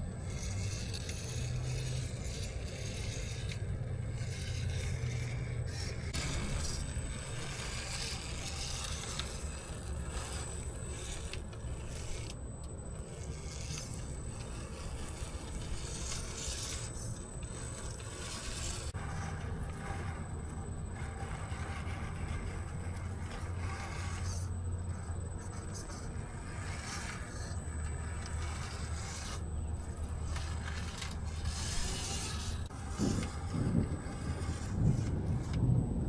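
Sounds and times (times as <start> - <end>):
electric motor hum: 0.0 - 36.0
tyres scraping over ground: 0.0 - 36.0.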